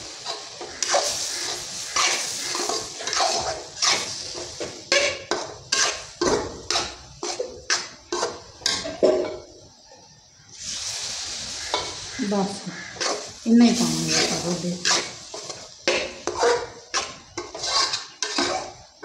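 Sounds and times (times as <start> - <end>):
metal ladle scraping a pan: 0.0 - 9.2, 10.6 - 18.9.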